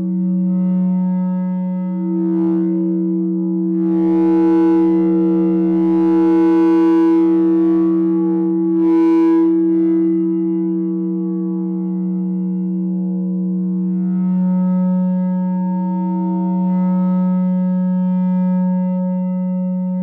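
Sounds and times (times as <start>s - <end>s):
mixer feedback drone: 0.0s - 20.0s.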